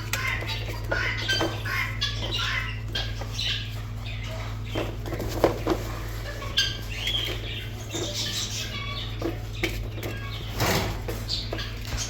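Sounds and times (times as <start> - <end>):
raccoon chittering: 0.0 - 12.0
scuffling and pattering: 0.0 - 12.0.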